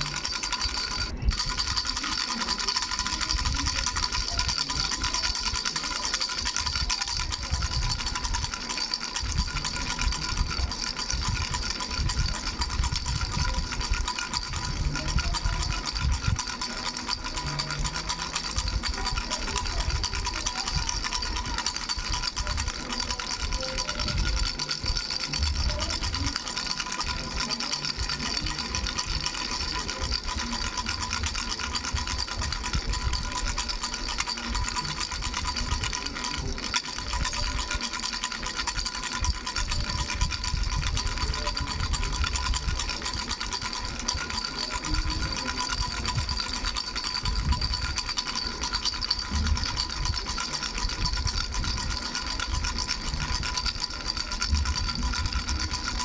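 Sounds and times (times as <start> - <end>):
baby rattle with bells jingling: 0.0 - 56.0.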